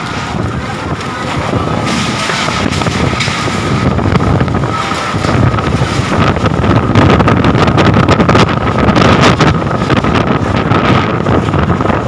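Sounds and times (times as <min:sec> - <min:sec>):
wind gusting against microphone: 0:00.0 - 0:12.0.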